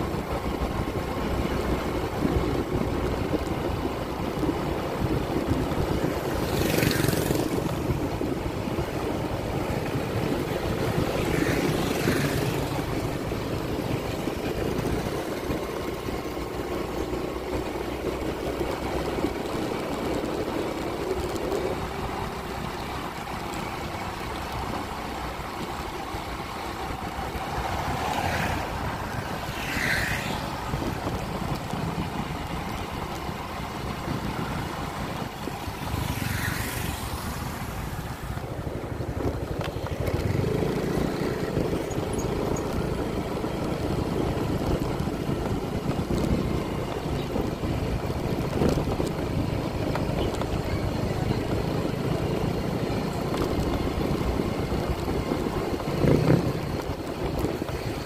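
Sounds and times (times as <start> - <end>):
road and wind noise: 0.0 - 58.0
vehicle engine droning: 0.0 - 58.0.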